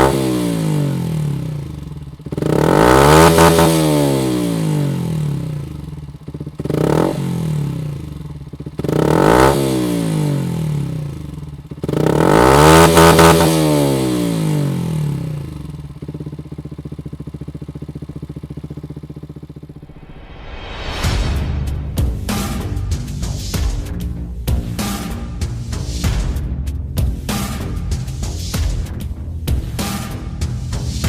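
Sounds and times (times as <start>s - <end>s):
motorcycle engine revving and idling: 0.0s - 31.0s.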